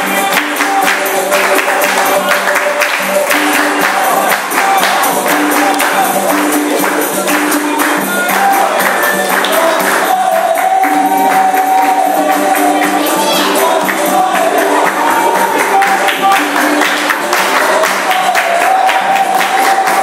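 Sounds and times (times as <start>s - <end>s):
hand claps: 0.0s - 13.1s, 13.8s - 20.0s
group singing: 0.0s - 20.0s.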